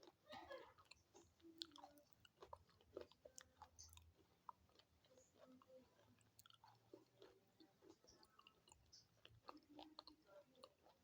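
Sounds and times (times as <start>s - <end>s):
chewing hard chalky pieces: 0.0s - 11.0s.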